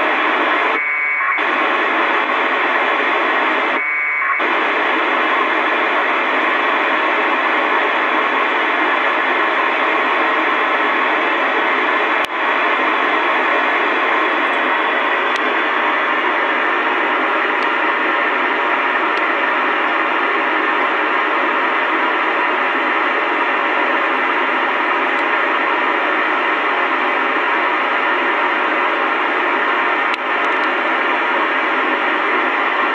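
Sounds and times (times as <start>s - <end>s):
radio receiver hiss: 0.0s - 32.9s.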